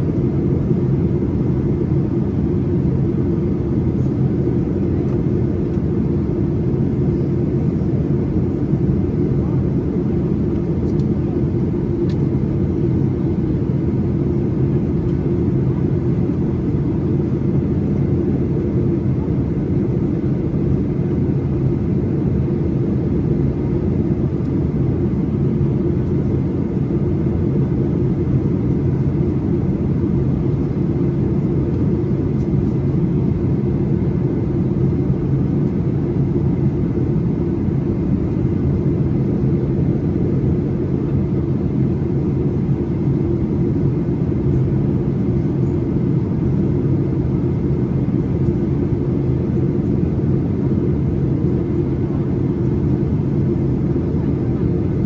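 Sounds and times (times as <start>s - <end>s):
jet engine rumble: 0.0s - 55.0s.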